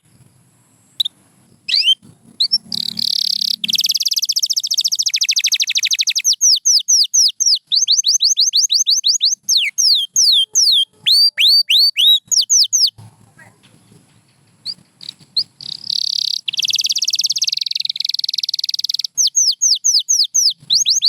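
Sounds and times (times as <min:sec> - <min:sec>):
canary singing: 0:01.0 - 0:14.0, 0:14.6 - 0:21.0.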